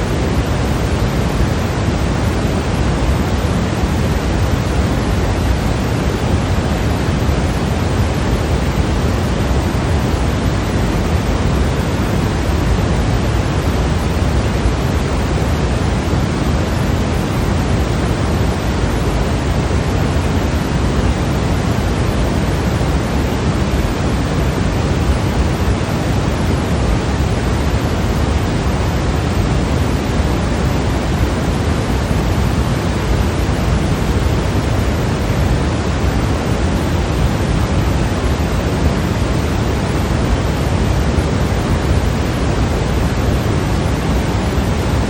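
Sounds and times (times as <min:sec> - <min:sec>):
white noise hiss: 0:00.0 - 0:45.0.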